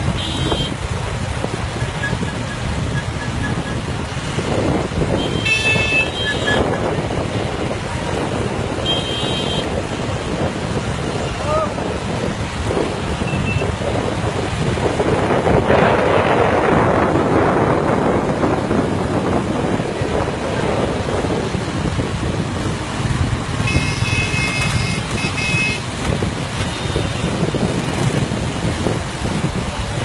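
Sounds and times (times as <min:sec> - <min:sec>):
engine noise: 0:00.0 - 0:30.0
road traffic: 0:00.0 - 0:30.0
wind buffeting microphone: 0:00.0 - 0:30.0.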